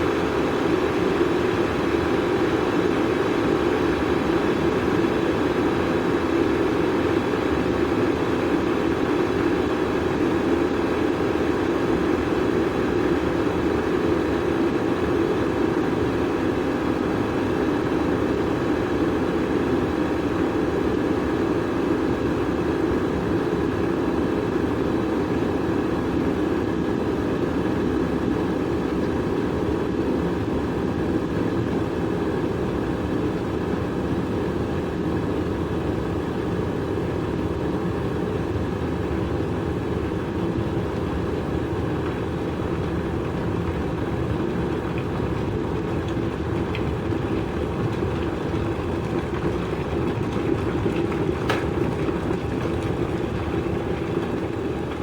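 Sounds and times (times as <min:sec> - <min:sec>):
electric kettle heating water: 0:00.0 - 0:55.0.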